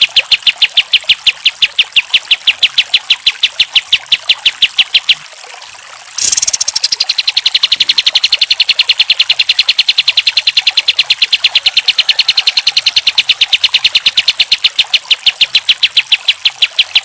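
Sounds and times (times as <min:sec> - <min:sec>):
bulbul singing rapid notes: 0:00.0 - 0:05.3, 0:06.2 - 0:17.0.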